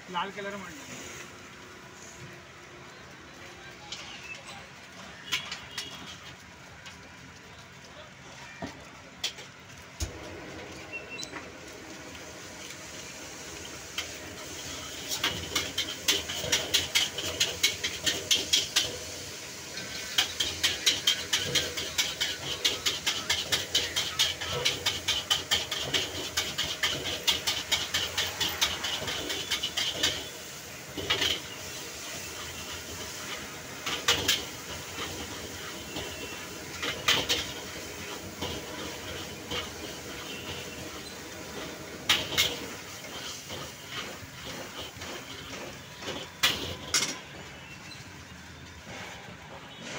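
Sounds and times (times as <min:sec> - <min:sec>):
steady sizzling hiss: 0:00.0 - 0:49.5.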